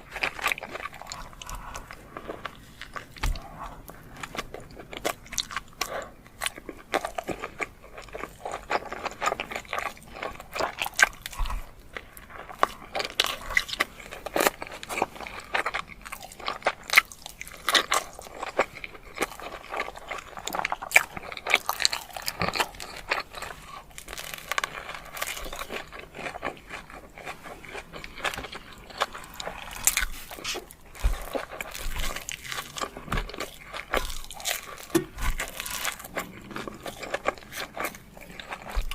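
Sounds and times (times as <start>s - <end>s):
biting and chewing food: 0.0s - 38.9s.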